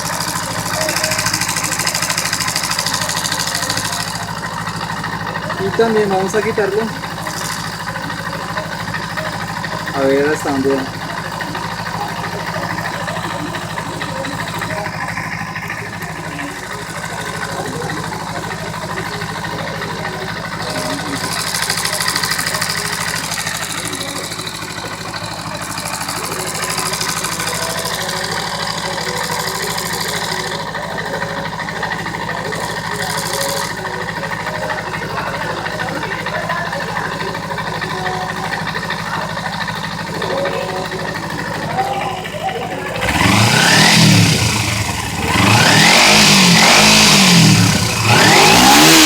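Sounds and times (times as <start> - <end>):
cam chain clatter: 0.0 - 49.0
motorcycle engine idling: 0.0 - 49.0.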